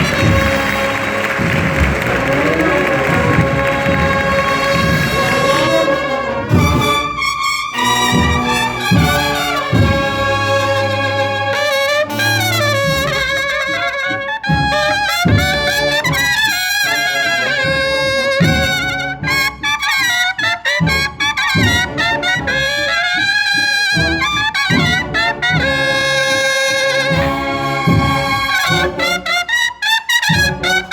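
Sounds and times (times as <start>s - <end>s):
brass band playing a march: 0.0s - 30.9s
drum beats: 0.0s - 30.9s.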